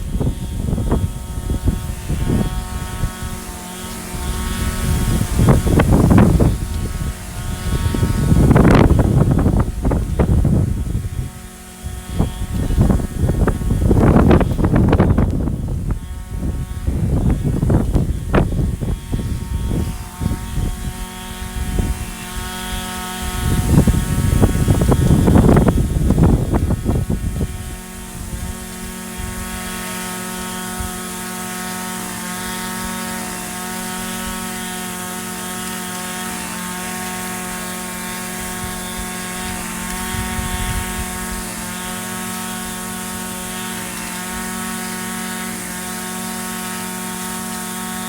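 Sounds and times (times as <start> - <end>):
rough gusty noise: 0.0 - 31.7, 33.7 - 44.8
wind buffeting microphone: 0.0 - 31.7, 36.9 - 45.4
string trimmer engine idling: 0.0 - 48.0.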